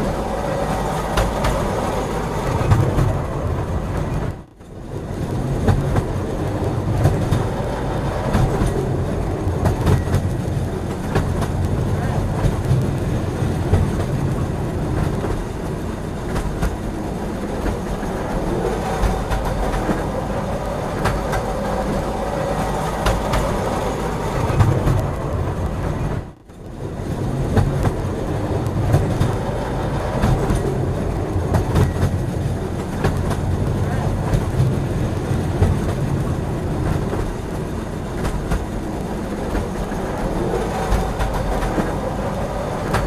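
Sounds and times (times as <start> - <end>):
freight train rumbling: 0.0 - 43.0
wheels clicking over rail joints: 0.0 - 43.0.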